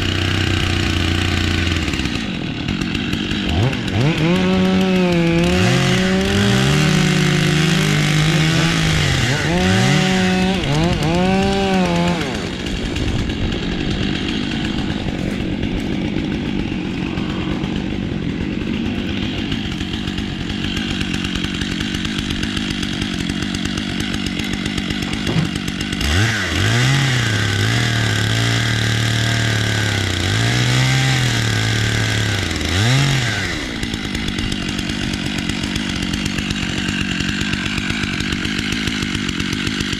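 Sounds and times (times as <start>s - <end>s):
buzzing cutting noise: 0.0s - 38.5s
chainsaw engine bogging in cut: 0.0s - 39.9s.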